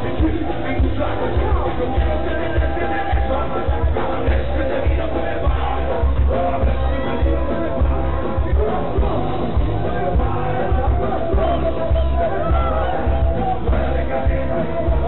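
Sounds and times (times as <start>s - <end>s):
crowd voices and shouts: 0.0s - 15.0s
loud music with heavy bass beat: 0.0s - 15.0s.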